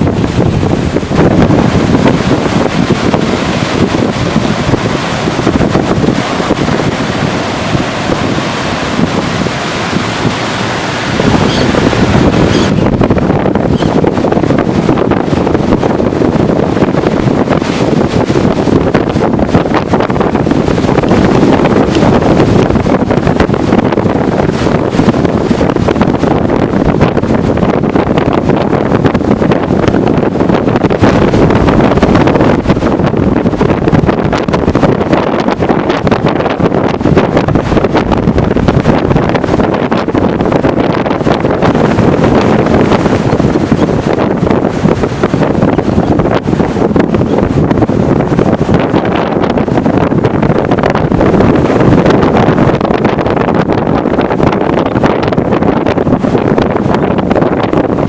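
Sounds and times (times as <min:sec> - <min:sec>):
strong gusting wind on microphone: 0:00.0 - 0:58.0.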